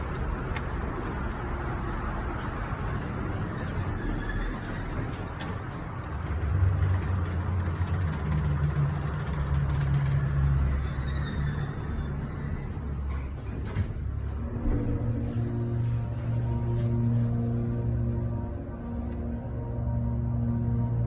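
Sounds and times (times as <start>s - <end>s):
elevator drive humming: 0.0s - 21.0s
elevator machinery rumble: 0.0s - 21.0s.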